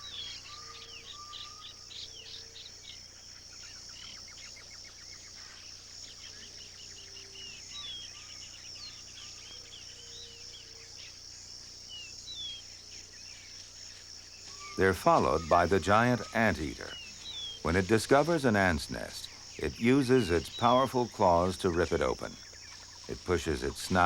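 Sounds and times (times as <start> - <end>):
high-pitched insect trill: 0.0 - 24.0.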